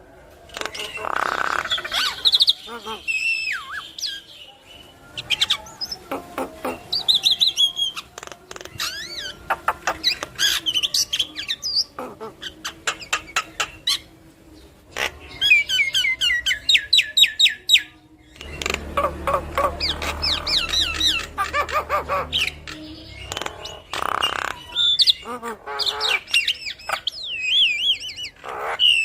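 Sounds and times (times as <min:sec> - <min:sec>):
bird singing varied song: 0:00.5 - 0:29.0.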